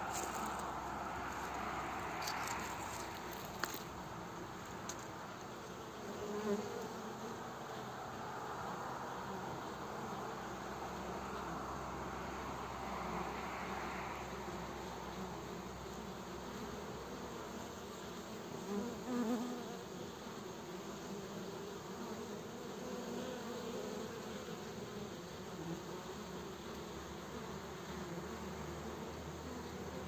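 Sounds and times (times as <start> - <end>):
honeybees humming: 0.0 - 30.0.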